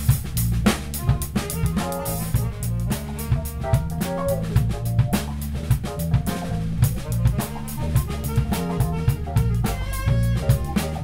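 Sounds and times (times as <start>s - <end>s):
drum kit beat: 0.0s - 11.0s
electric bass line: 0.0s - 11.0s
horns: 0.0s - 11.0s
keyboard: 0.7s - 11.0s.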